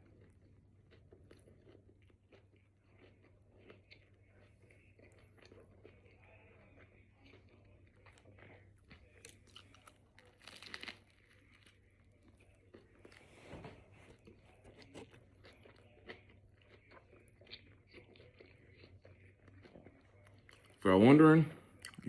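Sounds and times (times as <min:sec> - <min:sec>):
chewing and biting food: 0:00.0 - 0:20.9, 0:21.7 - 0:22.0.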